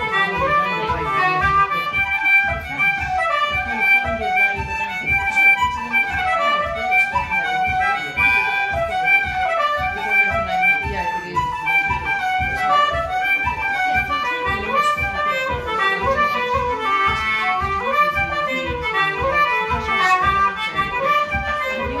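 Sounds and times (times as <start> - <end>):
concertina: 0.0 - 22.0
flute: 0.0 - 22.0.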